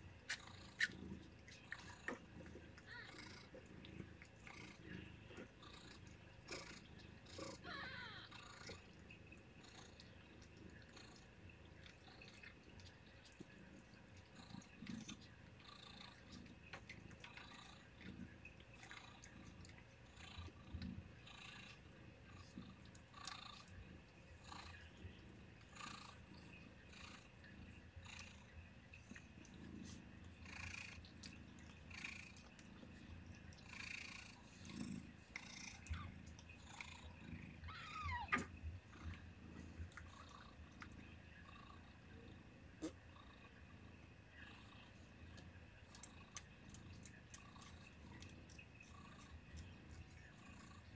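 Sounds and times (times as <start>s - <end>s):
cat purring: 0.0s - 50.9s
wet licking and rustling: 0.1s - 24.7s, 25.3s - 41.0s, 45.3s - 50.9s.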